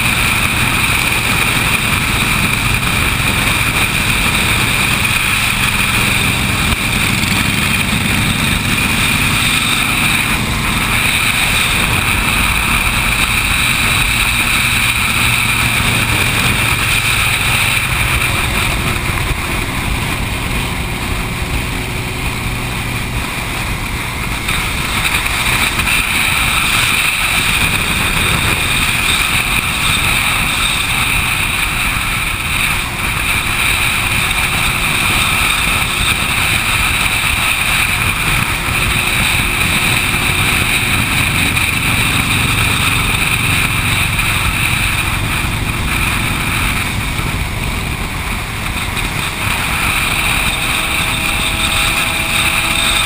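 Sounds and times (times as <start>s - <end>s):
motorcycle engine cruising: 0.0s - 53.0s
road noise: 0.0s - 53.0s
wind noise: 0.0s - 53.0s.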